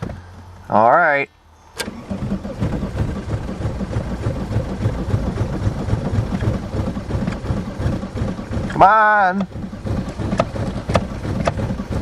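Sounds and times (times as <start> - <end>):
starter motor cranking engine: 1.7 - 12.0.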